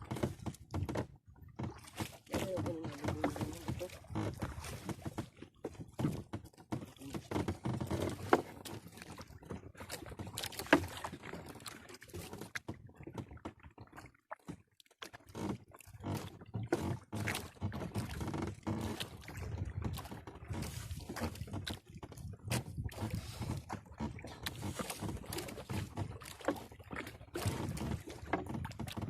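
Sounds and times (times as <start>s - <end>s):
knocks and clatters on boat: 0.0s - 29.0s.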